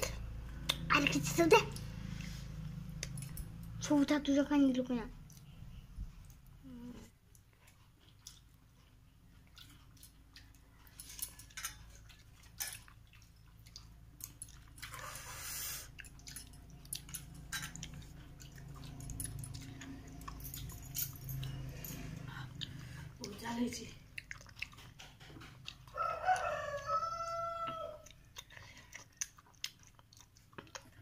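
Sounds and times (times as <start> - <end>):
chewing: 0.2 - 3.8, 6.2 - 31.0.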